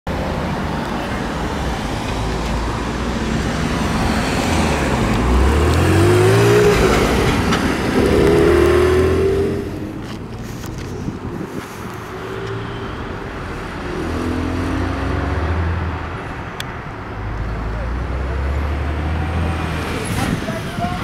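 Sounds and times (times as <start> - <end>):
cars accelerating past: 1.7 - 16.5, 17.1 - 20.5.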